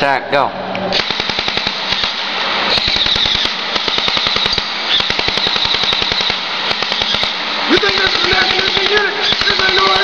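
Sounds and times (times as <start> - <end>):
airsoft gun firing full auto: 0.9 - 10.0.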